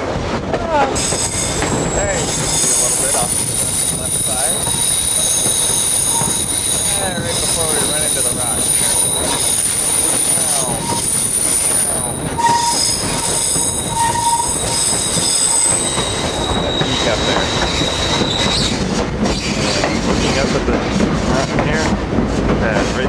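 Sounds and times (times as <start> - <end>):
train rumbling on rails: 0.0 - 23.0
train wheels squealing: 1.0 - 20.6.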